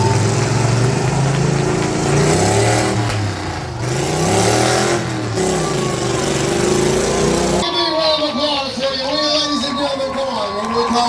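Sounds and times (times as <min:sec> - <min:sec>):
lawn tractor engines revving: 0:00.0 - 0:11.0.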